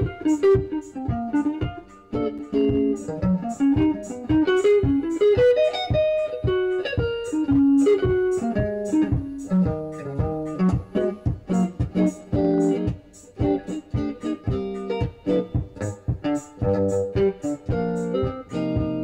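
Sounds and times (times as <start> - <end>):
solo electric guitar: 0.0 - 19.0.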